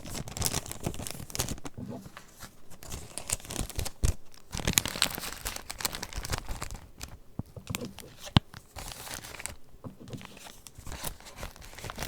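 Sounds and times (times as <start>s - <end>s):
paper pages rustling and crinkling: 0.0s - 12.0s.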